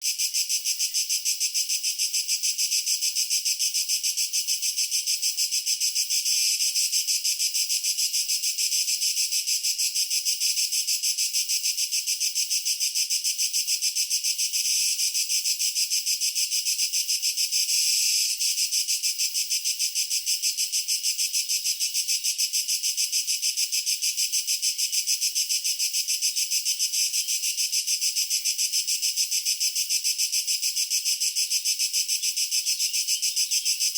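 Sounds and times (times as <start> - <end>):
tree cricket chirping: 0.0 - 33.9.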